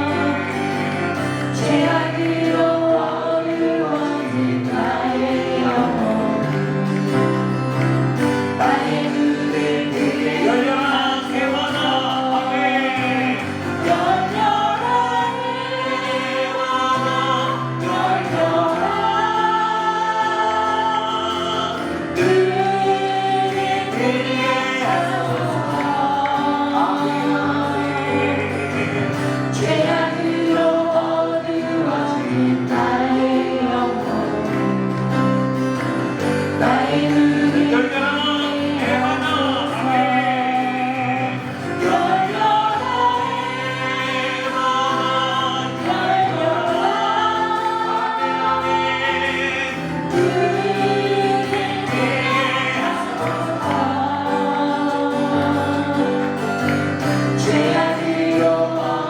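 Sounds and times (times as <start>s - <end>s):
group singing worship song: 0.0s - 59.0s
instrumental accompaniment: 0.0s - 59.0s.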